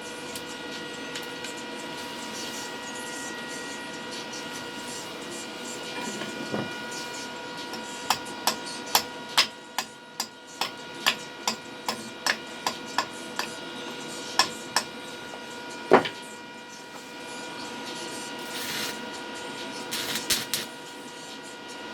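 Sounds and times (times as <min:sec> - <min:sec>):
steady high hum: 0:00.0 - 0:21.8.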